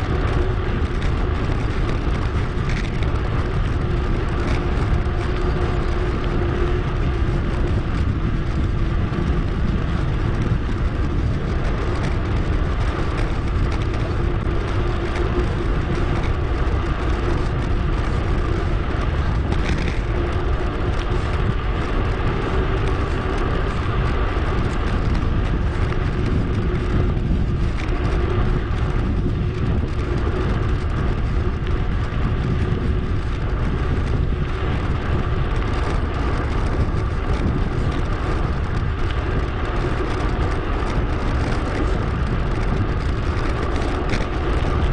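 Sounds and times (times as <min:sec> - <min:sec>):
bike tyre noise: 0:00.0 - 0:44.9
wind rumble on microphone: 0:00.0 - 0:44.9.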